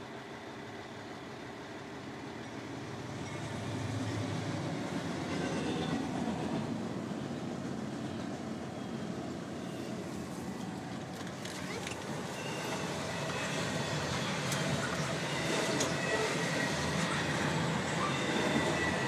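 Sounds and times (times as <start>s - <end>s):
locomotive rumble: 0.0s - 19.0s
train cars rolling: 0.8s - 19.0s.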